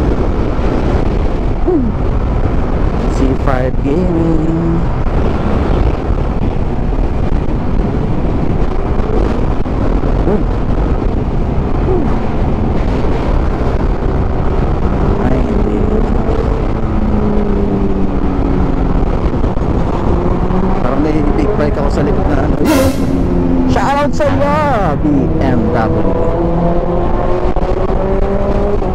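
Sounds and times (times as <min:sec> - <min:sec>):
traffic engine hum: 0:00.0 - 0:28.9
tyres on road: 0:00.0 - 0:28.9
wind rushing over microphone: 0:00.0 - 0:28.9.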